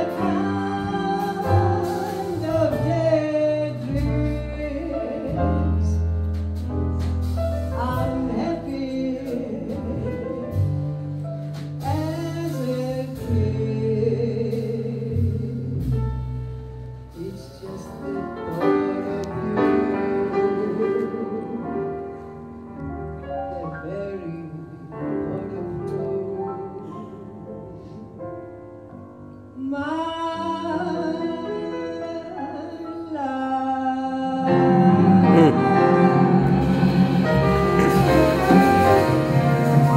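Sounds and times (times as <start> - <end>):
woman singing jazz: 0.0 - 16.4, 17.0 - 22.6, 23.4 - 27.8, 29.5 - 39.9
double bass: 0.0 - 31.9, 34.4 - 39.9
piano: 0.0 - 39.9.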